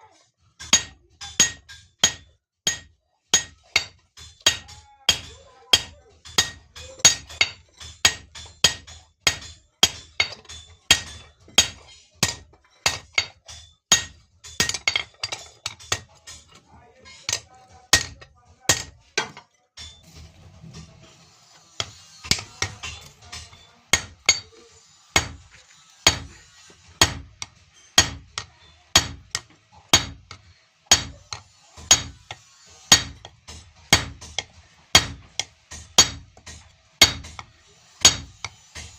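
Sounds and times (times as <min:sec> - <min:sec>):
hammer striking iron on anvil: 0:00.6 - 0:16.6, 0:17.2 - 0:20.2, 0:21.8 - 0:38.9.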